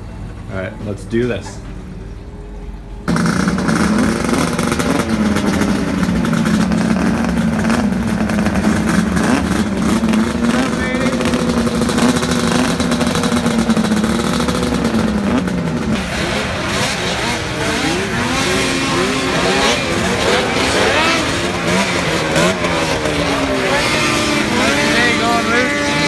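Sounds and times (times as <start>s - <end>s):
snowmobile engines revving: 3.1s - 26.0s.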